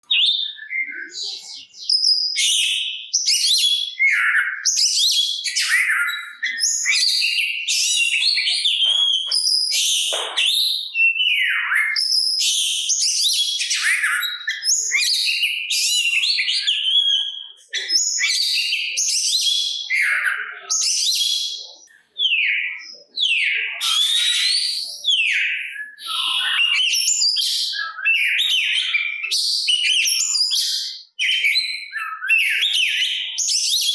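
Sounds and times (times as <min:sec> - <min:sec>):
magpie-robin singing: 0:00.0 - 0:33.9.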